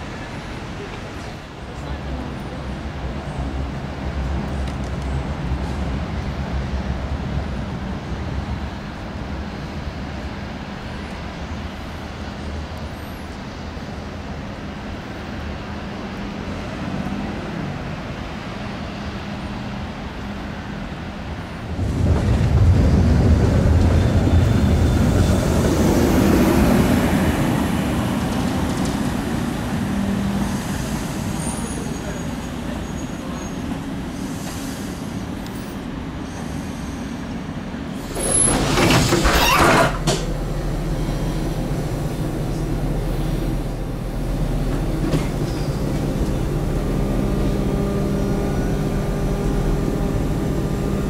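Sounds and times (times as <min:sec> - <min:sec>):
tram rumbling on rails: 0:00.0 - 0:51.0.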